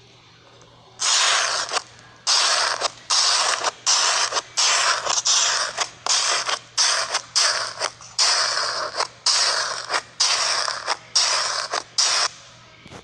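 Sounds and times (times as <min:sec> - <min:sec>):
scratchy rubbing strokes: 0:01.0 - 0:12.3.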